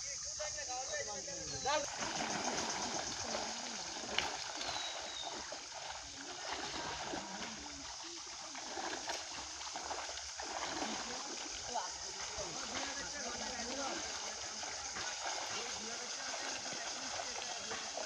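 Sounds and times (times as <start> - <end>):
voices in background: 0.0 - 18.0
water sloshing and splashing: 1.6 - 18.0.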